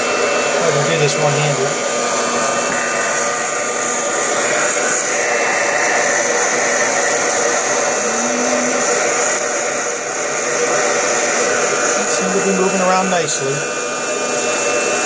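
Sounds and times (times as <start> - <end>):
hot-air popper fan running: 0.0 - 15.0.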